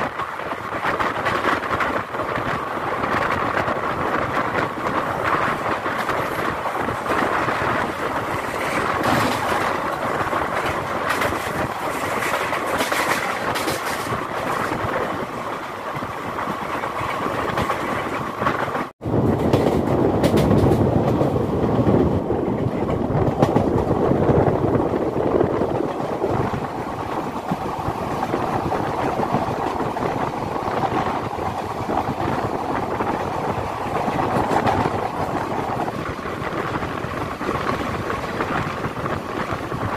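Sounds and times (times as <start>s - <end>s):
coach wheels rumbling on rails: 0.0s - 39.9s
express train rushing past: 0.0s - 39.9s.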